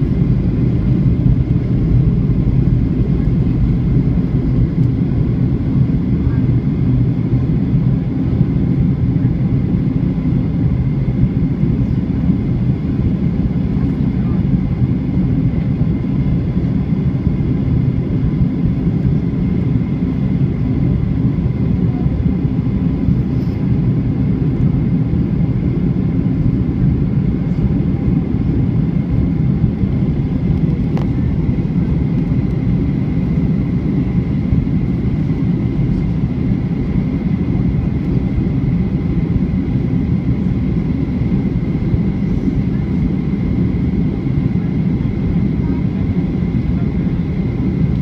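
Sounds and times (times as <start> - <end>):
airliner cabin engine roar: 0.0 - 48.0.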